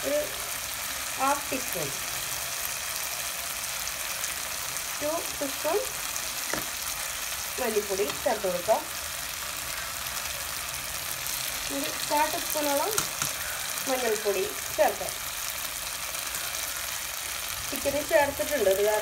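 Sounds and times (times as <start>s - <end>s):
food sizzling in frying pan: 0.0s - 19.0s.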